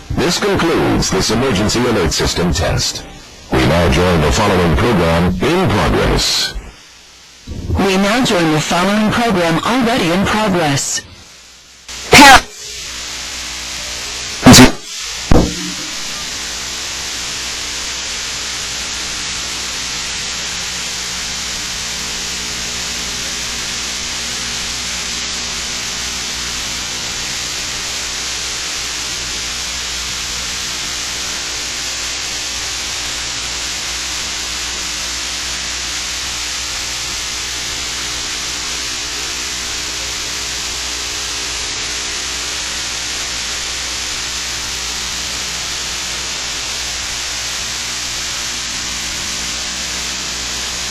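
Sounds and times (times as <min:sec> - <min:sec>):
static hiss: 0:00.0 - 0:50.9.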